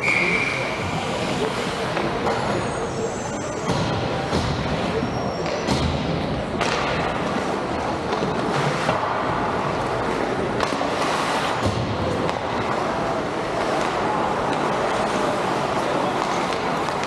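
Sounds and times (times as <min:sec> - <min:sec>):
skates scraping ice: 0:00.0 - 0:05.9, 0:06.5 - 0:17.0.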